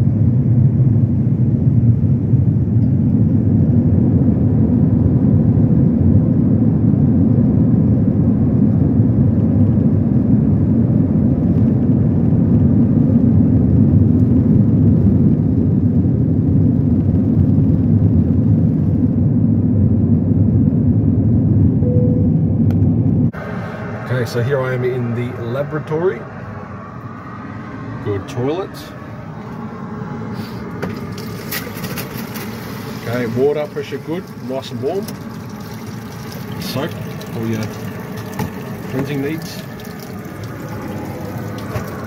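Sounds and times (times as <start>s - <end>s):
jet engines rumbling: 0.0s - 42.0s.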